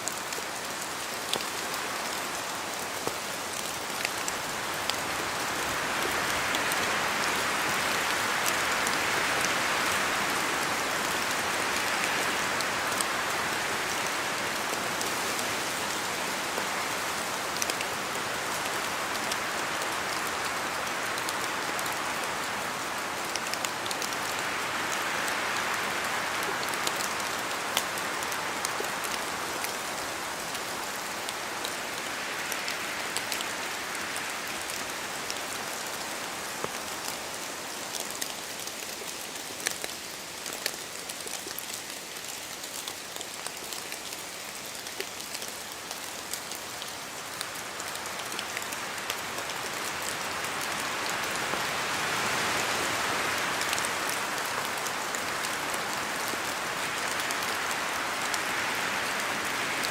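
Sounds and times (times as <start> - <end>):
steady rain in forest: 0.0 - 59.9
wind: 0.0 - 59.9.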